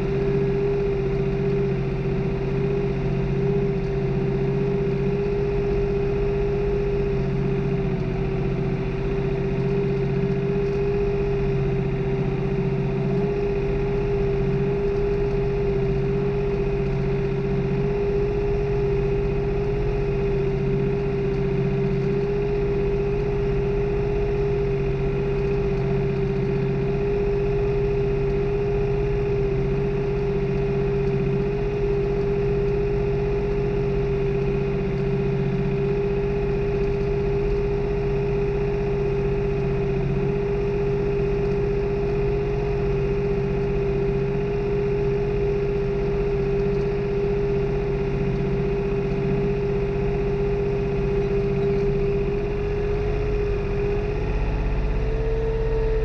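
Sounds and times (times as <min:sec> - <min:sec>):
steady whine: 0:00.0 - 0:56.0
tractor diesel engine running: 0:00.0 - 0:56.0.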